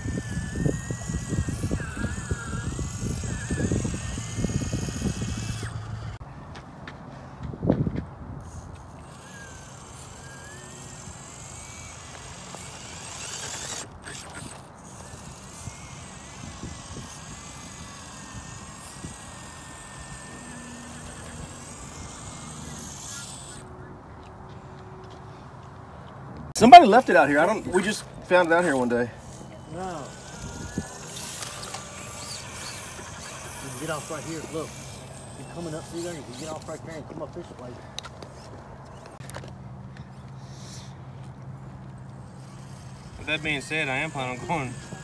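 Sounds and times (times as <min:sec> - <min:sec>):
electric motor and gears whining: 0:00.0 - 0:06.3, 0:08.3 - 0:45.0.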